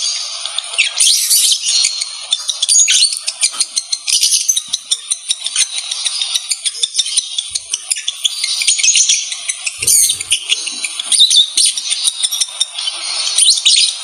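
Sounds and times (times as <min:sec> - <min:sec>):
lovebirds chattering: 0:00.0 - 0:14.0.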